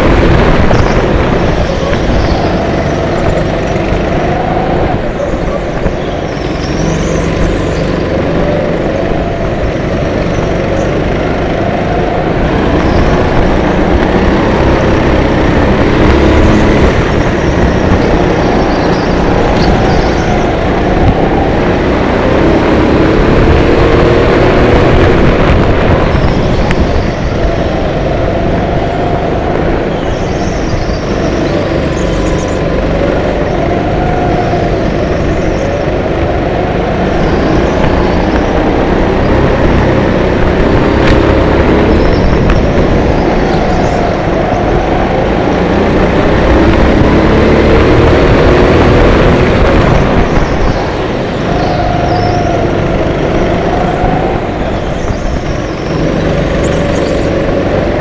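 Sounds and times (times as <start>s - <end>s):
go-kart engines racing: 0.0s - 58.0s.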